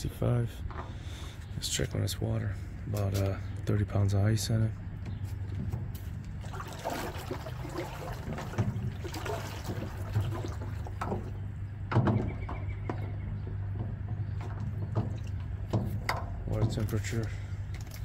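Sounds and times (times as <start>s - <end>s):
water sloshing and trickling: 0.5s - 3.8s, 4.7s - 18.0s.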